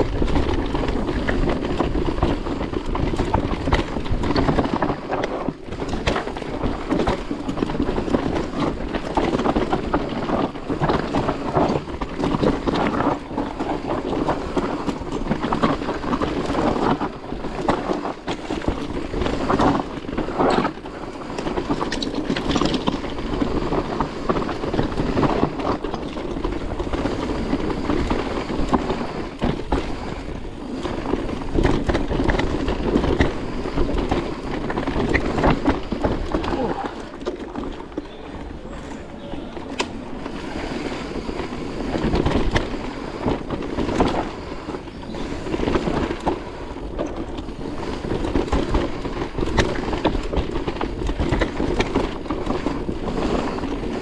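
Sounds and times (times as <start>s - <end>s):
bike rattling over bumps: 0.0s - 54.0s
tyres rolling over dirt: 0.0s - 54.0s.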